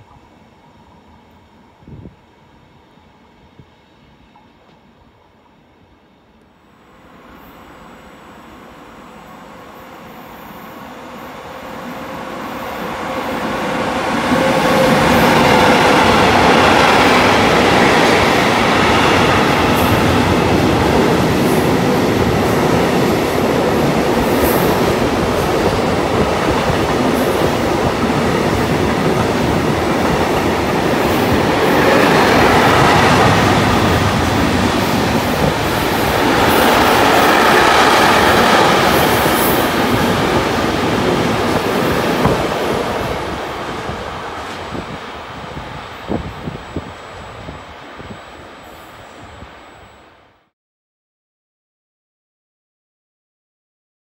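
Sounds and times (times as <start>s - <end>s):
freight train passing: 0.0s - 50.2s.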